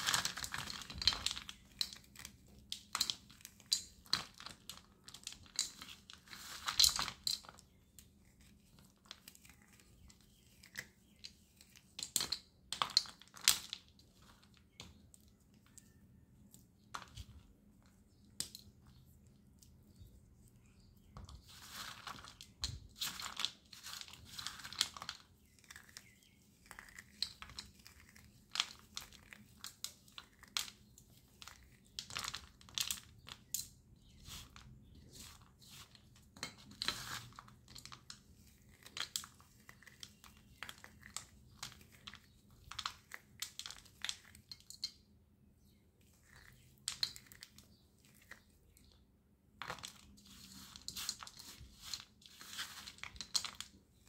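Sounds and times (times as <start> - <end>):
slate pieces clicking and scraping: 0.0 - 45.1, 46.1 - 49.0, 49.6 - 54.0.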